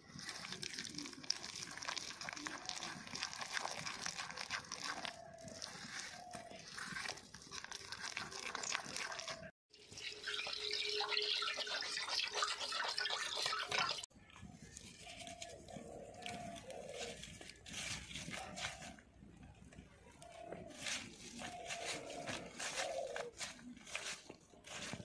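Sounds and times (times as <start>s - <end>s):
hand squelching wet batter: 0.0s - 25.0s.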